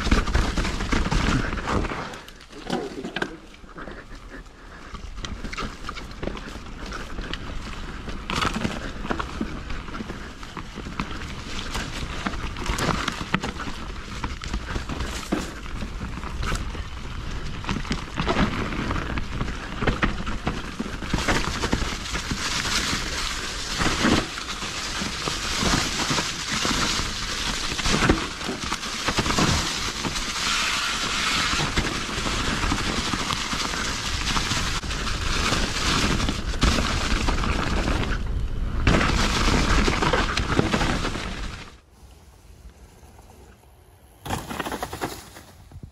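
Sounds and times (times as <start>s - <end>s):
bike knocks and rattles: 0.0s - 3.6s, 5.4s - 30.4s, 31.0s - 41.6s, 44.2s - 45.9s.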